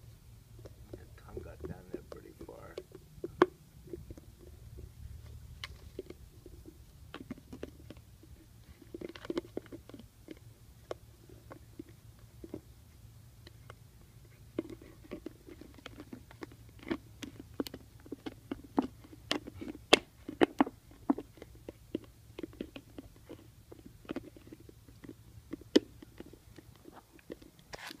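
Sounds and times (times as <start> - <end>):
puppy licking a plastic jar: 0.6 - 28.0.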